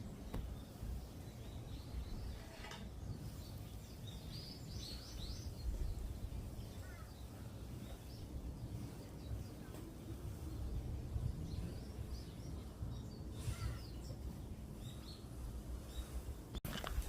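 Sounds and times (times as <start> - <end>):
small birds chirping: 0.0 - 17.0
steady low rumble: 3.0 - 17.0.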